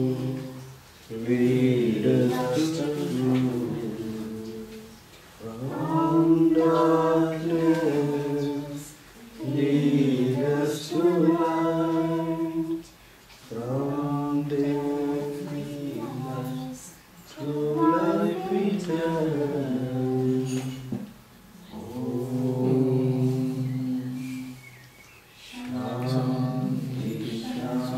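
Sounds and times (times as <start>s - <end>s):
voices singing devotional chant: 0.0s - 27.9s.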